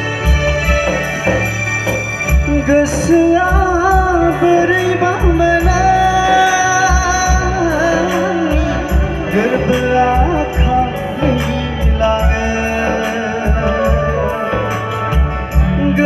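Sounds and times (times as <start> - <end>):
deep bass drum beat: 0.0 - 16.0
electronic keyboards: 0.0 - 16.0
person singing: 2.3 - 16.0.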